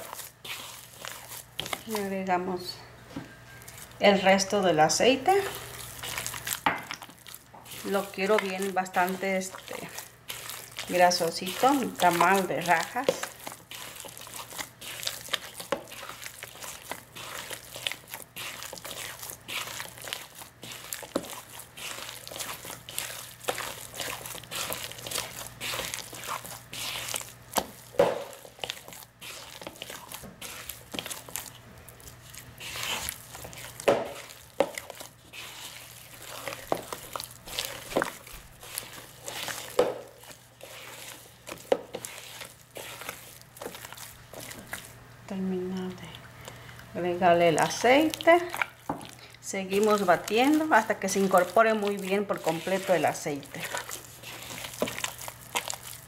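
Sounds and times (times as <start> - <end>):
hand squelching wet dough: 0.0 - 2.7, 3.5 - 56.0.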